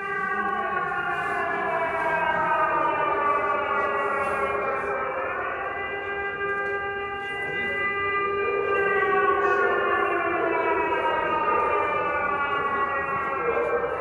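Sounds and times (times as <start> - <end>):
air-raid siren wailing: 0.0 - 14.0.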